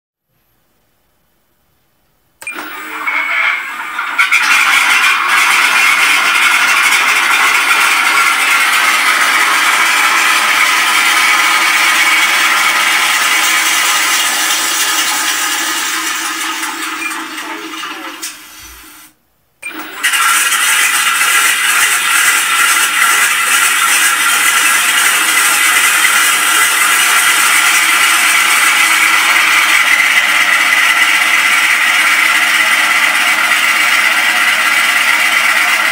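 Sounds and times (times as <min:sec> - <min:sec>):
simulated radial engine running: 0:02.4 - 0:35.9.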